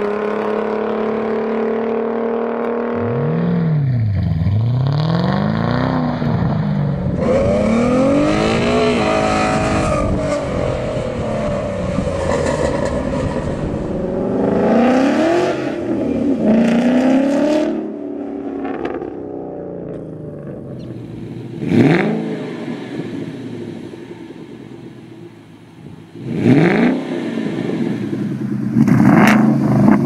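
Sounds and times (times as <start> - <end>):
car exhaust revving: 0.0 - 30.0.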